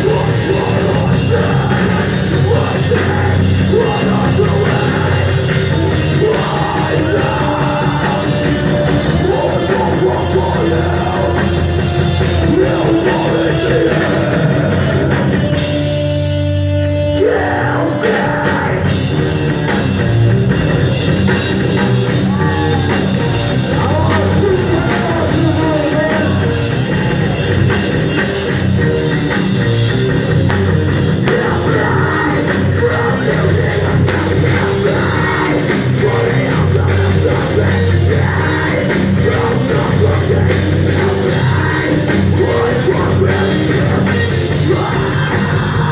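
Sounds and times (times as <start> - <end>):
heavy rock music: 0.0 - 45.9.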